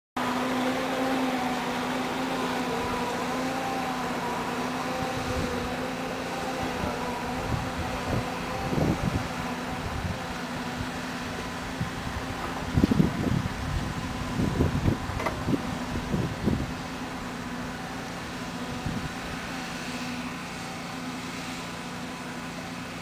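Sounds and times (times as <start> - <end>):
motor humming: 0.2 - 23.0.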